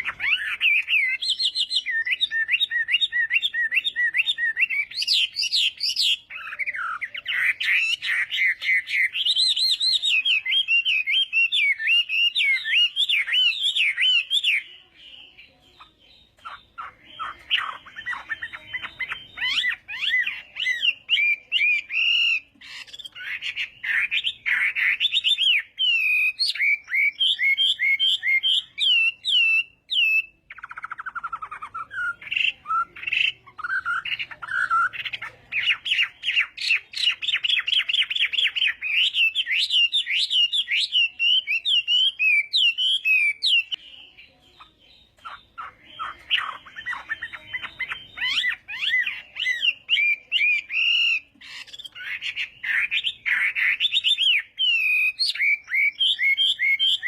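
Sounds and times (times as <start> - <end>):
bird singing whistled notes and trills: 0.0 - 57.0.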